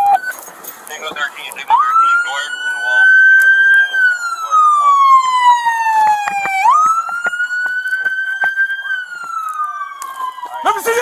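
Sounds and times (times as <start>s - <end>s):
police siren wailing: 0.0s - 0.4s, 1.0s - 11.0s.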